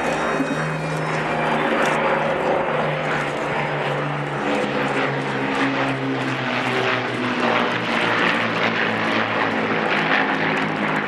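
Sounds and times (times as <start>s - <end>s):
propeller aircraft droning past: 0.0s - 11.0s.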